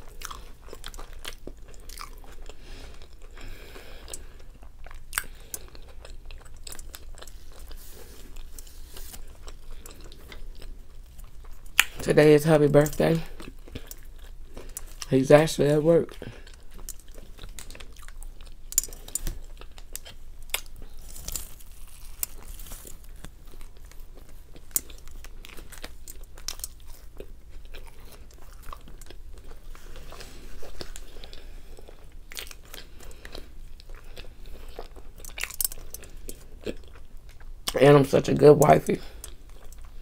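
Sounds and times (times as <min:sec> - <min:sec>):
person chewing crunchy fries: 0:00.0 - 0:40.0.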